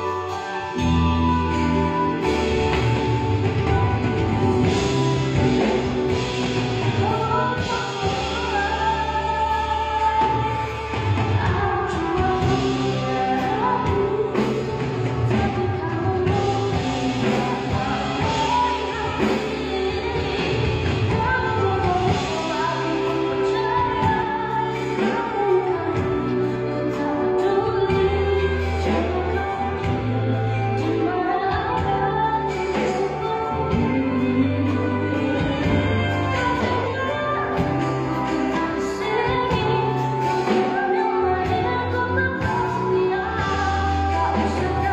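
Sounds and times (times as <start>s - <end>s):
live band with electric guitar: 0.0s - 44.9s
woman singing pop ballad: 0.0s - 44.9s.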